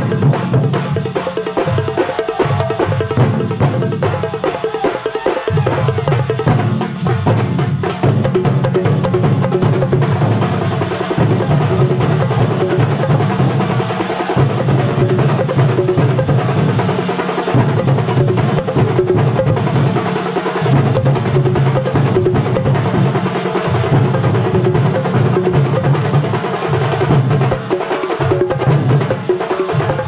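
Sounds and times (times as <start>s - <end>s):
drum ensemble fast rhythm: 0.0s - 30.0s.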